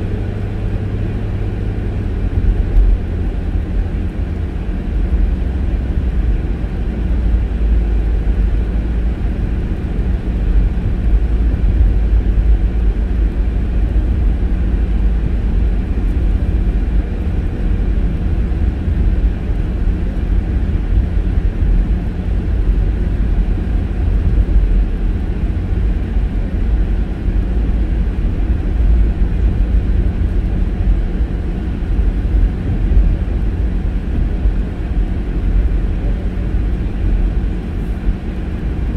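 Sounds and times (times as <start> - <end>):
car interior road rumble: 0.0 - 38.9.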